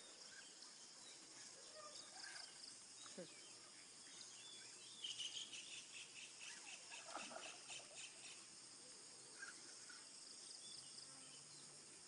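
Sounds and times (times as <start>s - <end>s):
insects chirping and buzzing: 0.0s - 12.0s.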